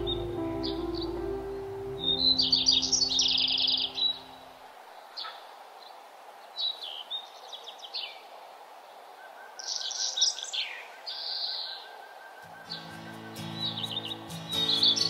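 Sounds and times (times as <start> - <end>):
outdoor background hiss: 0.0 - 15.0
songbirds chirping: 0.0 - 15.0.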